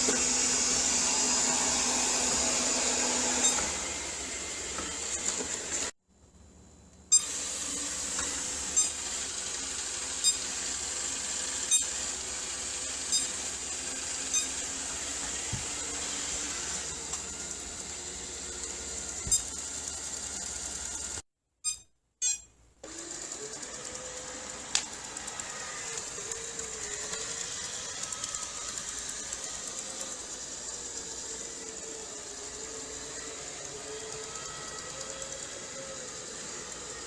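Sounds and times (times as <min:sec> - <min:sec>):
robot vacuum cleaner whirring: 0:00.0 - 0:06.0, 0:07.1 - 0:21.2, 0:22.8 - 0:37.0.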